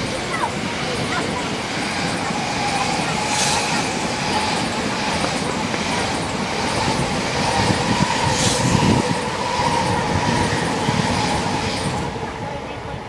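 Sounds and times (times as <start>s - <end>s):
train wheels rushing on rail: 0.0s - 13.0s
train whine: 0.0s - 13.0s.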